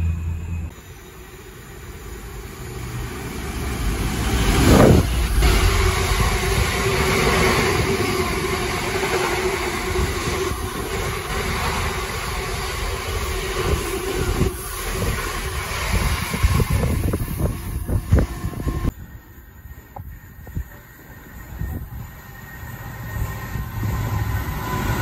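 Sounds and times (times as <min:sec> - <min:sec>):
freight train rumbling past: 0:00.0 - 0:25.0
train hum: 0:00.0 - 0:25.0.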